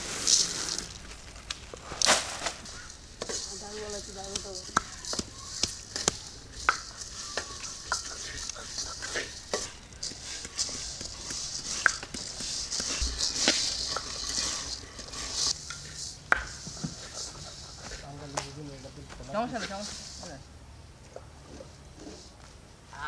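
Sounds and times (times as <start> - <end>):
grains sliding over metal pan: 0.0 - 20.4.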